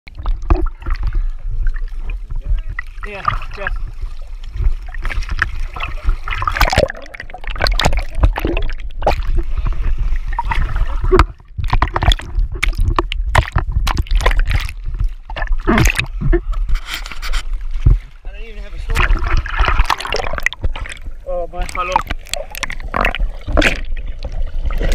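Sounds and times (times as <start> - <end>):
sea water splashing and gurgling: 0.1 - 24.9.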